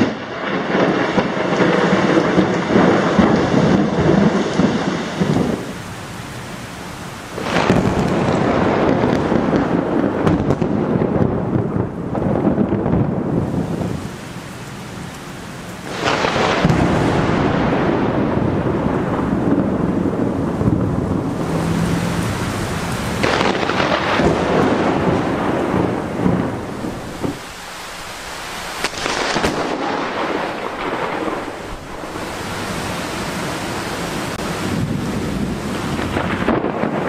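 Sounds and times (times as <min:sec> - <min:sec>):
rain: 0:00.0 - 0:37.0
thunder cracking and rumbling: 0:00.0 - 0:37.0.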